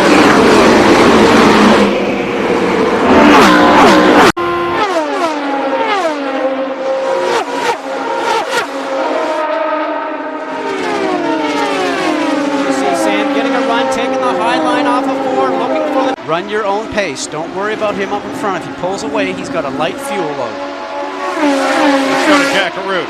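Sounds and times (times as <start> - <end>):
race cars passing by: 0.0 - 23.0.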